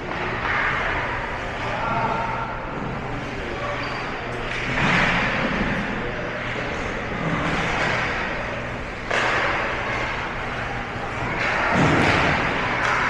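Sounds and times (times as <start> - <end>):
crowd noise: 0.0 - 13.0
on-ice skating sounds: 0.0 - 13.0.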